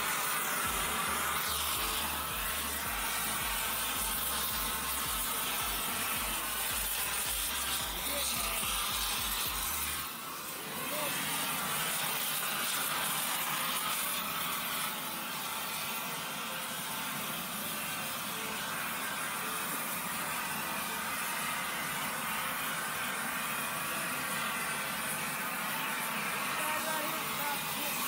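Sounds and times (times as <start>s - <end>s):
gas torch flame hissing: 0.0s - 28.0s.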